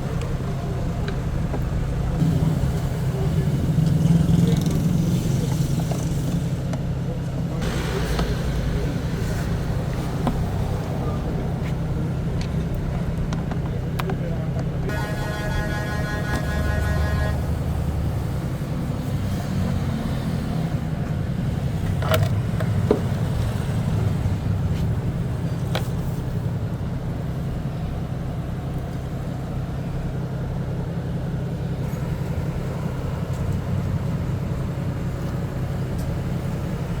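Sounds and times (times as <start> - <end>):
low mechanical rumble: 0.0 - 37.0.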